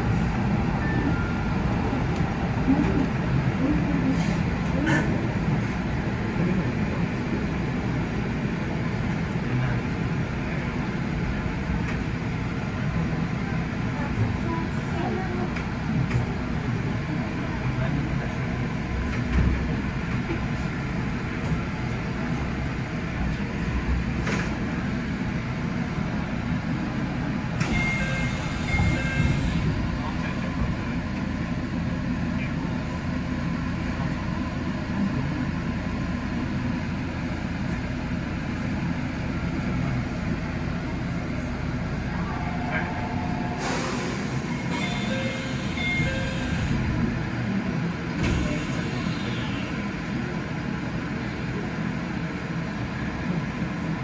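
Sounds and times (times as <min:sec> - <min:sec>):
train rumbling at platform: 0:00.0 - 0:54.0.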